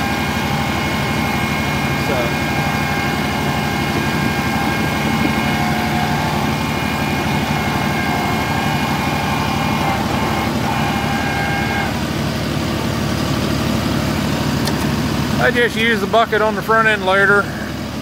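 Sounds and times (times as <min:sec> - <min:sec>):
high whine: 0:00.0 - 0:17.8
tractor engine running: 0:00.0 - 0:18.0.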